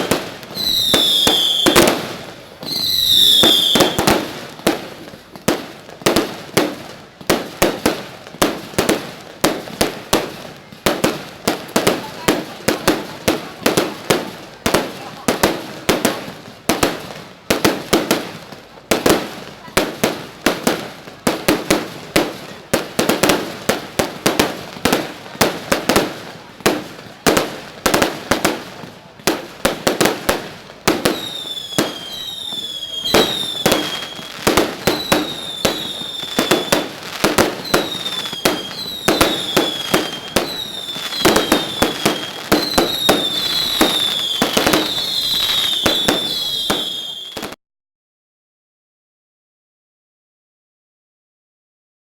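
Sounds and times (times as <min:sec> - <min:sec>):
fireworks bangs: 0:00.0 - 0:47.6.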